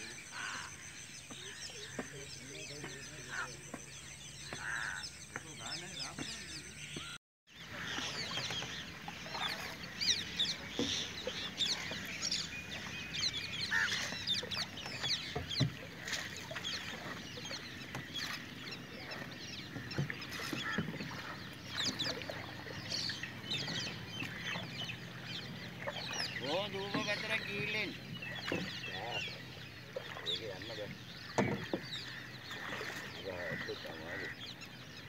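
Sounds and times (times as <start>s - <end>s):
birds chirping and calling: 0.0s - 35.0s.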